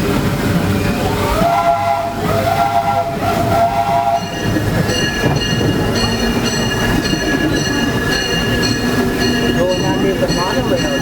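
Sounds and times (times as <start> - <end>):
steam train rumbling: 0.0 - 11.0.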